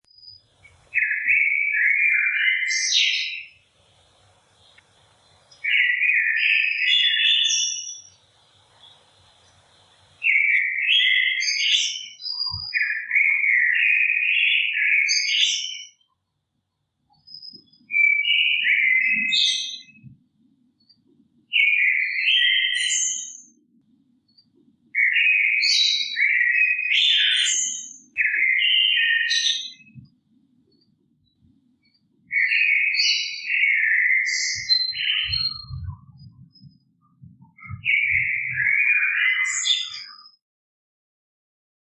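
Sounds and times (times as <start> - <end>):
songbird warbling chirps and trills: 0.0 - 16.2, 17.1 - 40.4.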